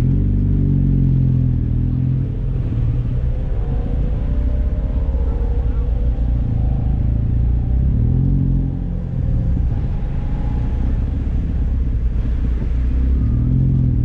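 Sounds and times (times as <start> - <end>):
car engine pulling: 0.0 - 14.0.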